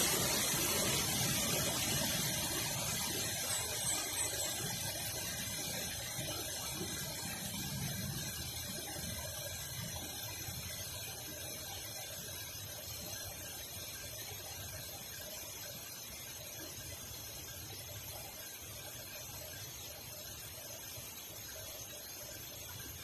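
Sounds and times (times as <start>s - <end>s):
waterfall and flowing stream: 0.0s - 23.0s.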